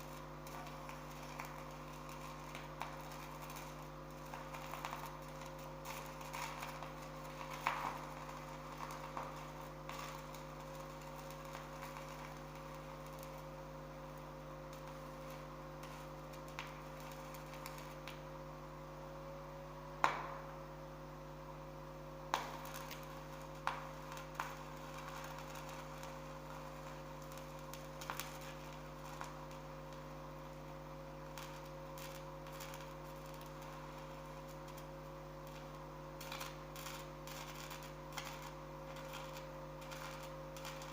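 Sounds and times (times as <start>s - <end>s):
arc welding machine humming: 0.0s - 40.9s.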